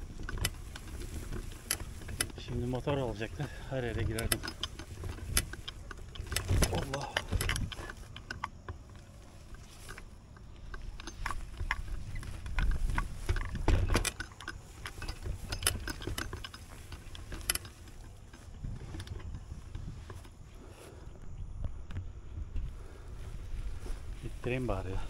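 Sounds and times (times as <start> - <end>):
bicycle thumping over bumps: 0.0 - 20.3
bicycle chain and frame rattling: 0.0 - 20.5.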